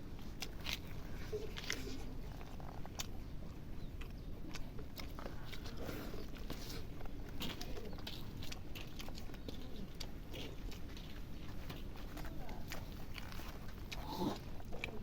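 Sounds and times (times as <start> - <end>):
chewing and crunching: 0.0 - 15.0.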